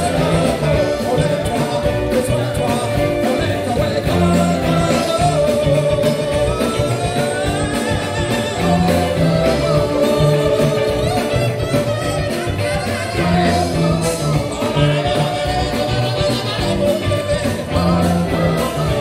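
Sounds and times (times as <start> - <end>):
button accordion: 0.0 - 19.0
drum kit: 0.0 - 19.0
saxophone: 0.0 - 19.0
sousaphone bass line: 0.0 - 19.0
trombone: 0.0 - 19.0.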